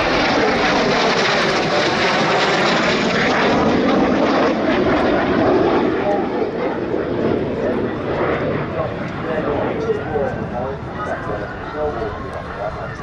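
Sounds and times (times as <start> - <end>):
jet flying overhead: 0.0 - 13.0.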